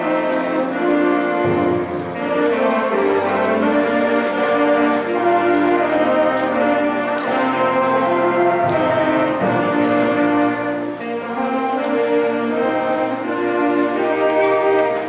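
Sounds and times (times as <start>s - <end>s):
concert band playing chords: 0.0s - 15.0s.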